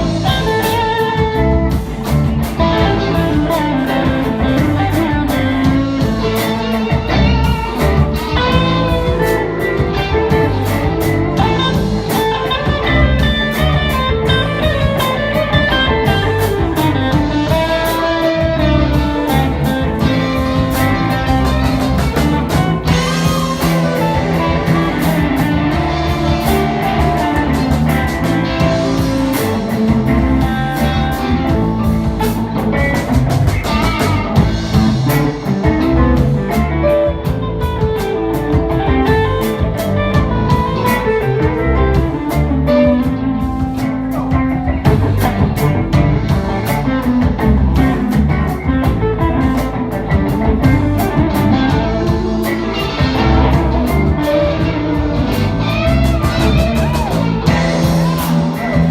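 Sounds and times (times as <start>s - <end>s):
blues band playing: 0.0s - 58.9s
electric guitar lines: 0.0s - 58.9s.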